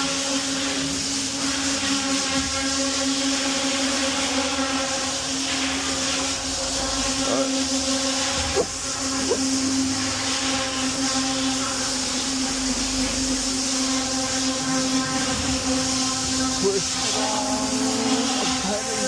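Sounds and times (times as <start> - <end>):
constant hiss: 0.0 - 19.0
machine hum: 0.0 - 19.0.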